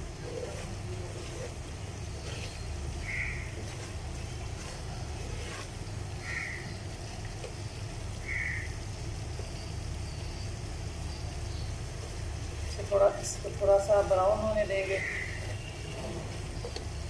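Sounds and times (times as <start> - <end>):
spatula stirring in pot: 0.0 - 14.0, 14.6 - 17.0
semolina frying in ghee: 0.0 - 17.0.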